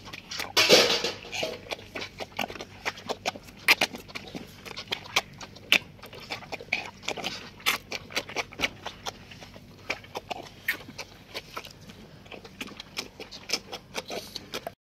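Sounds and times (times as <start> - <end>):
calf slurping milk: 0.0 - 14.8.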